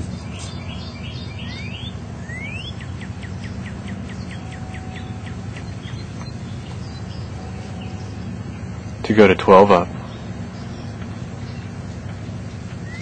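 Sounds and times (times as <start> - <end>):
low background rumble: 0.0 - 13.0
songbird singing: 0.0 - 13.0.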